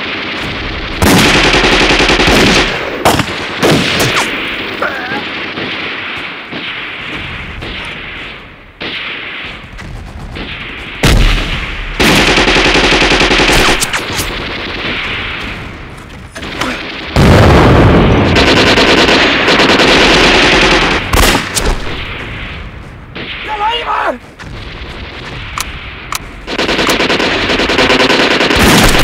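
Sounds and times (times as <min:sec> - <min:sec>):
rapid machine-gun fire: 0:00.0 - 0:22.5, 0:24.4 - 0:29.0.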